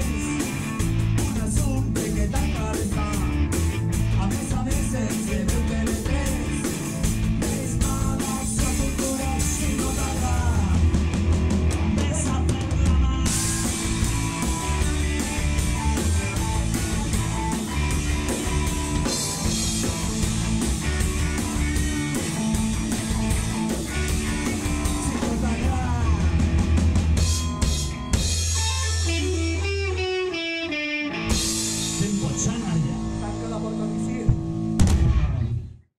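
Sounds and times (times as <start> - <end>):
drum kit played hard: 0.0 - 30.4, 31.2 - 35.4
rock music: 0.0 - 35.9.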